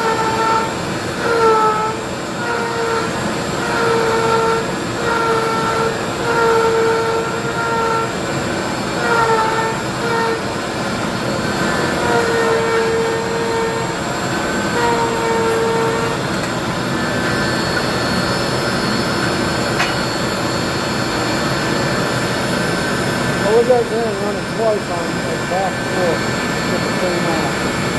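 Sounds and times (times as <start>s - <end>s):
router spinning with whine: 0.0s - 27.9s.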